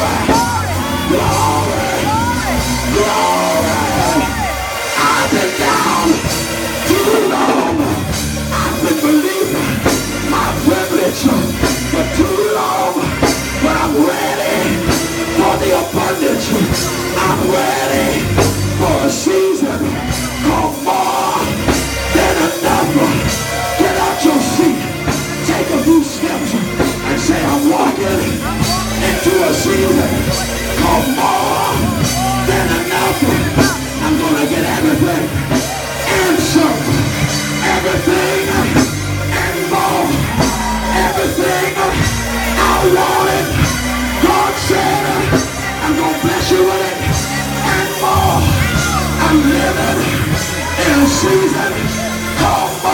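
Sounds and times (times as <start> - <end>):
live band music with drums: 0.0 - 52.9
man singing and shouting: 0.0 - 52.9.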